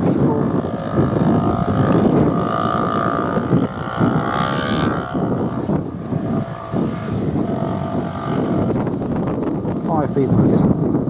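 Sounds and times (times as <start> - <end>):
off-road motorbikes passing: 0.0 - 11.0
wind buffeting microphone: 0.0 - 11.0.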